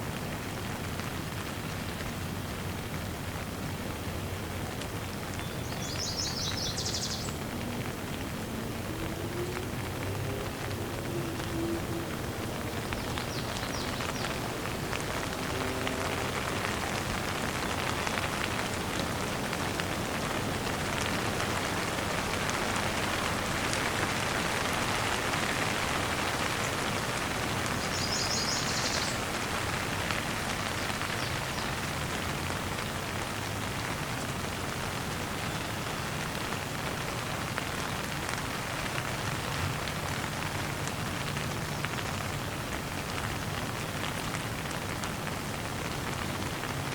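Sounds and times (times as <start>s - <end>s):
steady rain pattering: 0.0s - 46.9s.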